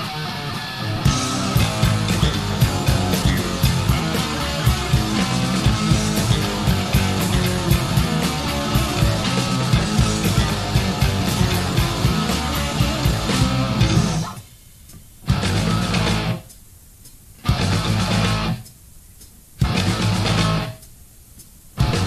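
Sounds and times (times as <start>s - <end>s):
hard rock band playing: 0.0s - 14.4s, 15.3s - 16.4s, 17.4s - 18.6s, 19.6s - 20.7s, 21.8s - 22.0s
electric guitar: 0.0s - 14.5s, 15.2s - 16.4s, 17.4s - 18.7s, 19.6s - 20.8s, 21.8s - 22.0s
driving drum beat: 0.9s - 22.0s.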